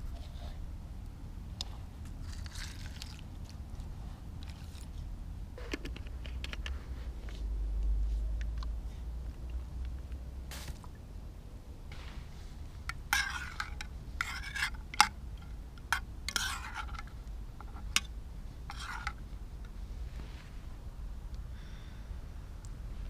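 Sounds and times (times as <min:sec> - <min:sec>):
steady low rumble: 0:00.0 - 0:14.3, 0:16.9 - 0:23.0.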